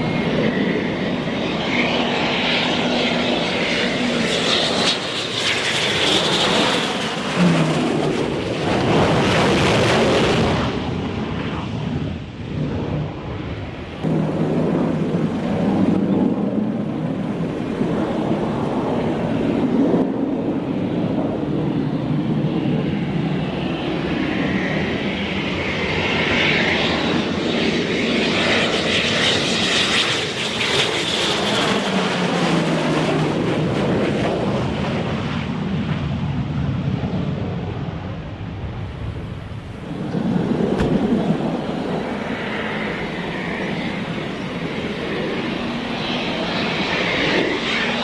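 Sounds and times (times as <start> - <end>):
jet fighters roaring past: 0.0 - 48.0.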